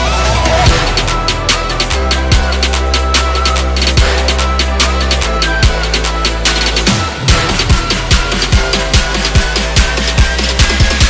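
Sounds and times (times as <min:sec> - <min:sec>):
drum and bass music: 0:00.0 - 0:11.0.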